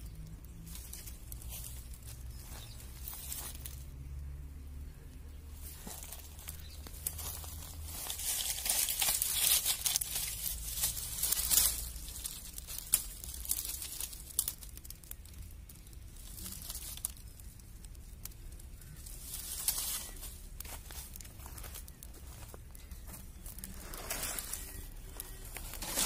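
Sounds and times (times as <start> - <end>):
brush fire crackling: 0.0 - 26.0.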